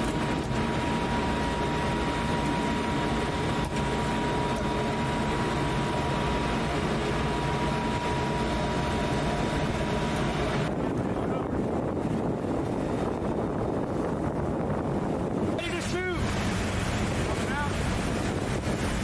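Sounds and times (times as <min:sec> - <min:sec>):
boat diesel engines droning: 0:00.0 - 0:19.0
high whine: 0:00.0 - 0:19.0
wind and water hiss: 0:00.0 - 0:19.0.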